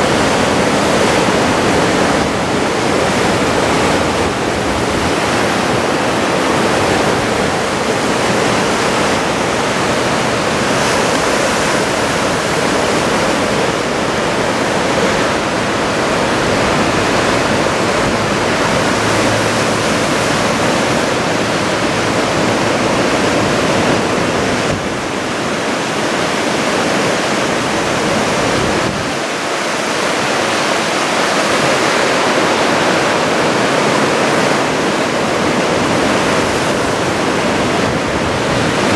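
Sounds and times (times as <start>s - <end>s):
heavy ocean surf roaring: 0.0s - 38.9s.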